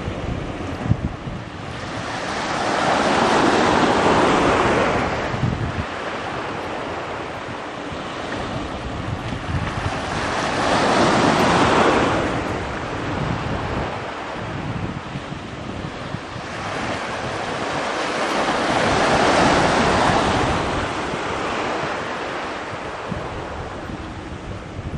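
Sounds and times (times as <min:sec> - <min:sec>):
small waves washing ashore: 0:00.0 - 0:24.9
wind rumble on microphone: 0:00.0 - 0:24.9.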